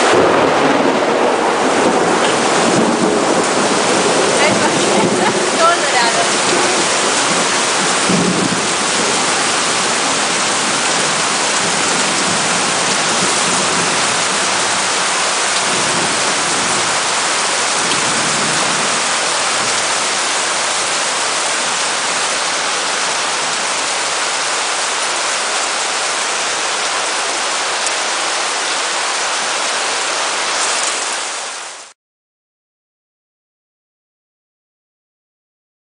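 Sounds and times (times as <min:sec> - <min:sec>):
heavy rain downpour: 0:00.0 - 0:32.0.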